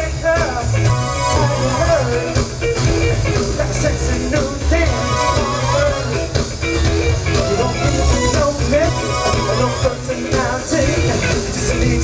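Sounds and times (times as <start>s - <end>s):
funk band playing: 0.0s - 12.0s.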